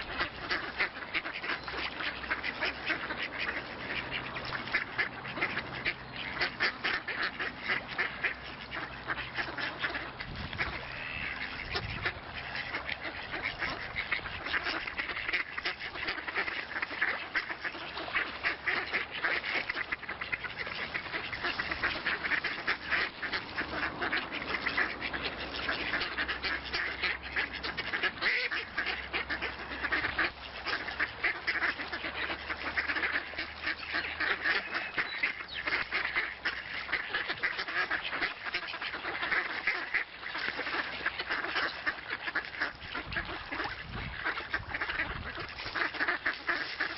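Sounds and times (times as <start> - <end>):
ducks quacking: 0.0 - 46.9.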